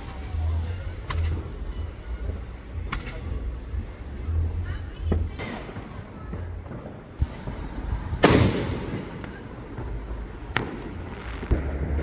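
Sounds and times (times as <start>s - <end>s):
fireworks bangs and crackling: 0.0s - 12.0s
low background rumble: 0.0s - 12.0s.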